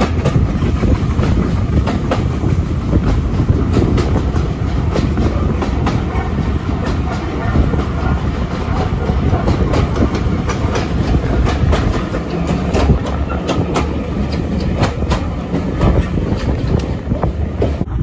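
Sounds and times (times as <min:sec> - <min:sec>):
rail clicks and clatter: 0:00.0 - 0:18.0
train wheels rumbling on rail: 0:00.0 - 0:18.0.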